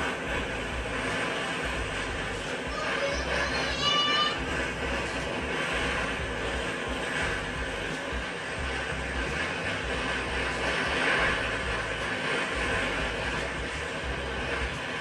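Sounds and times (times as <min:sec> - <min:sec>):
gas torch hissing: 0:00.0 - 0:15.0.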